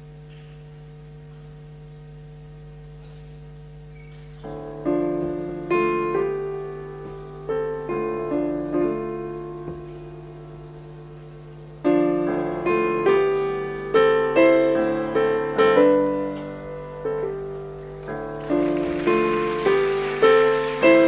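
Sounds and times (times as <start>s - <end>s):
steady low hum: 0.0s - 21.0s
solo piano jazz ballad: 2.9s - 21.0s.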